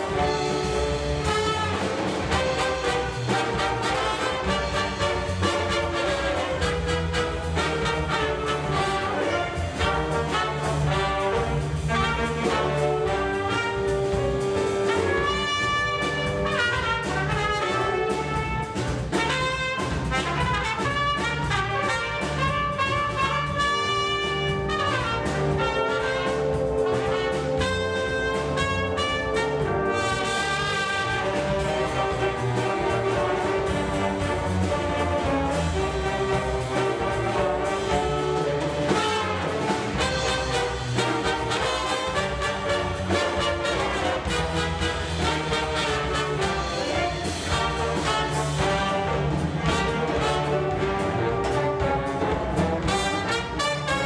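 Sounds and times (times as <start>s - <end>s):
big band jazz: 0.0s - 54.0s
brass chords: 0.0s - 54.0s.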